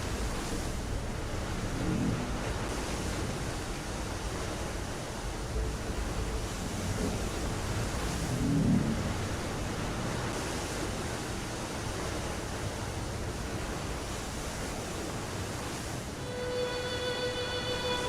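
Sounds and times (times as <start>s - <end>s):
sea water rushing: 0.0s - 18.0s
wind: 0.0s - 18.0s.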